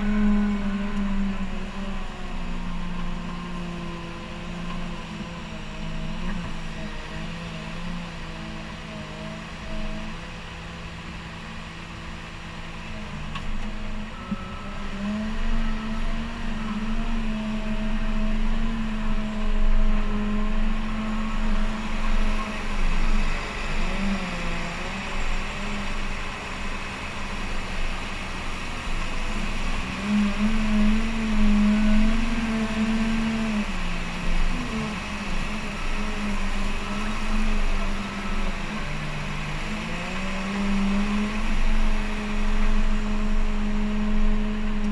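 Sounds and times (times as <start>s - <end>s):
wheel loader diesel engine revving: 0.0s - 44.9s.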